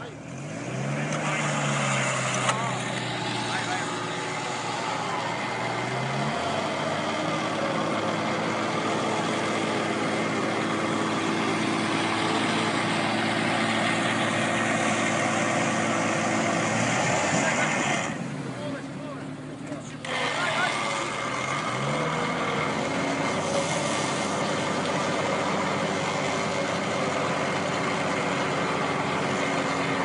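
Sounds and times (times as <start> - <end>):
car engine revving under load: 0.0 - 30.0.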